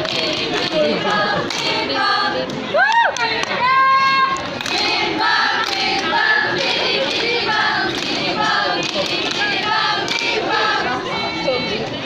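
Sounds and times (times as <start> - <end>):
young voices singing in unison: 0.0 - 12.0.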